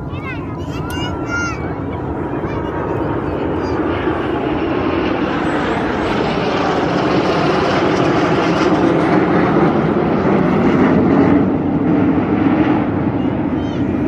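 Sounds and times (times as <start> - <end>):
jet engines roaring overhead: 0.0 - 14.0.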